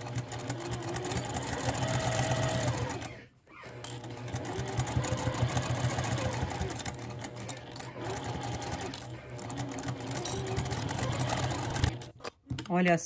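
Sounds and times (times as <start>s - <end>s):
sewing machine stitching: 0.0s - 12.3s.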